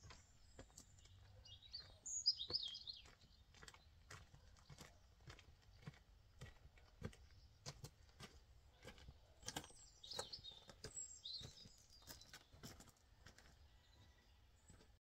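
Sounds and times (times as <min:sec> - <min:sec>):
birds chirping: 0:00.0 - 0:15.0
footsteps crunching on gravel: 0:00.0 - 0:15.0.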